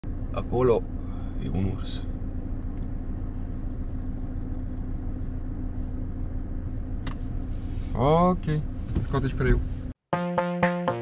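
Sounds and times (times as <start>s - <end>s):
car engine humming: 0.1s - 9.9s.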